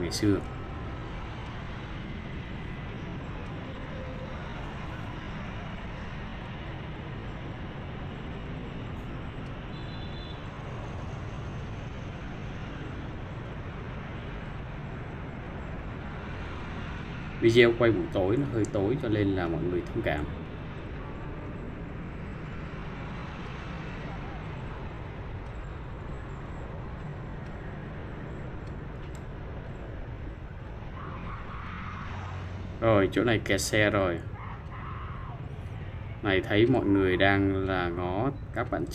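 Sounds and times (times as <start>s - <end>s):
car engines and tyres: 0.0s - 38.9s
motorbike traffic: 0.0s - 38.9s.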